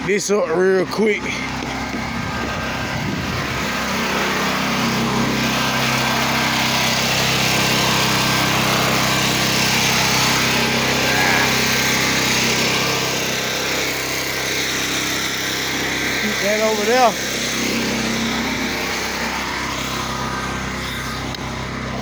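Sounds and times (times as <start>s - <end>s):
pressure washer engine running: 0.0s - 22.0s.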